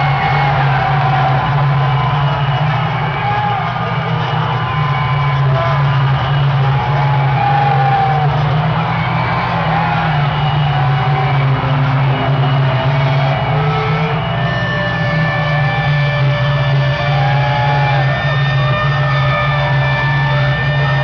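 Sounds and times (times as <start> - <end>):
crowd shouting: 0.0 - 21.0.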